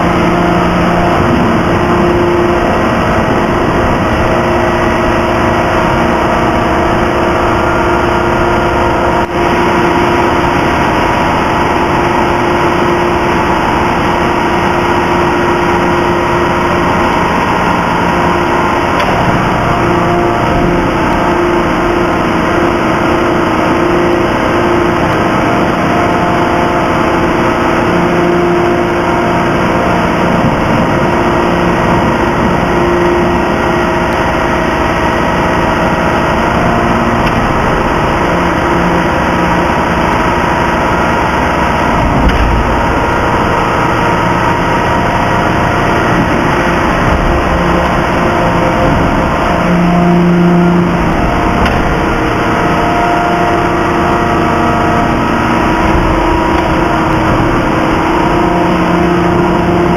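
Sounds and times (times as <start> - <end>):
heavy machinery droning: 0.0 - 59.9.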